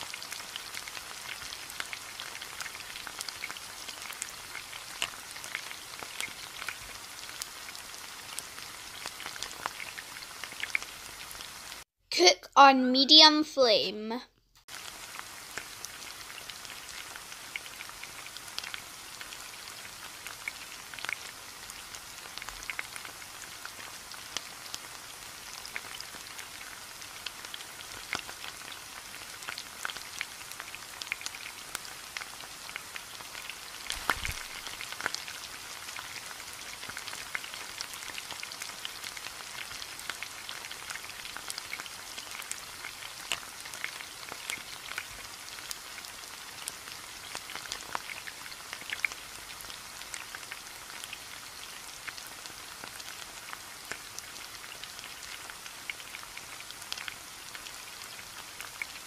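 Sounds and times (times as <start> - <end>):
oil sizzling in a frying pan: 0.0 - 11.9, 14.6 - 59.0.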